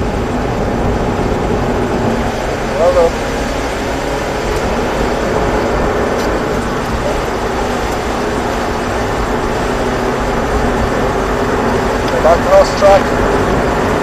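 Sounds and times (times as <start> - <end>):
car engine running: 0.0 - 14.0
tyres hissing on wet road: 1.9 - 14.0.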